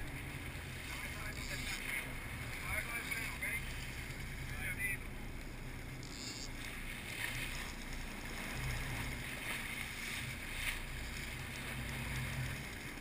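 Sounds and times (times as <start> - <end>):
boat engines humming: 0.0 - 13.0
water splashing along hull: 0.0 - 13.0.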